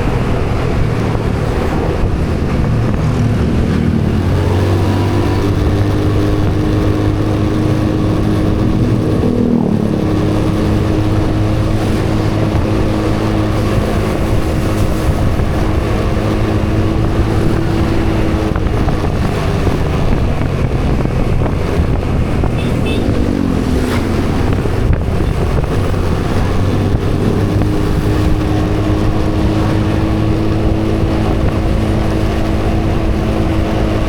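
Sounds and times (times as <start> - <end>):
constant rushing noise: 0.0 - 34.0
vehicle engine humming: 0.0 - 34.0.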